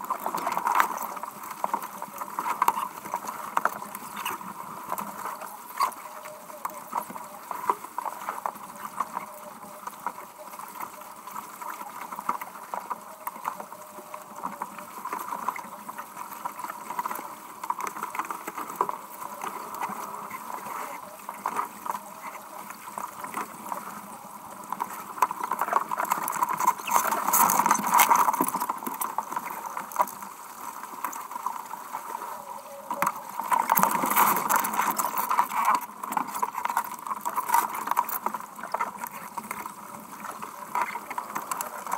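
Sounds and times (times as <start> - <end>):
water splashing against a hull: 0.0 - 41.9.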